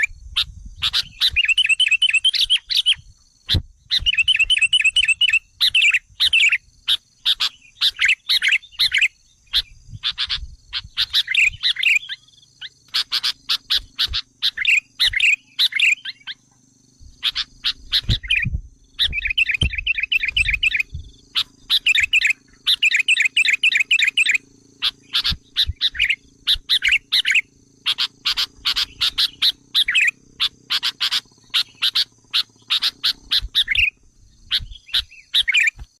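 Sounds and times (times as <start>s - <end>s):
bulbuls chattering calls: 0.0s - 35.8s.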